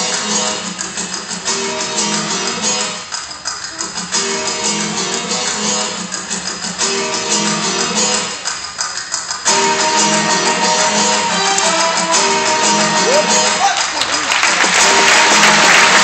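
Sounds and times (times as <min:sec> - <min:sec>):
strummed guitar music: 0:00.0 - 0:13.7.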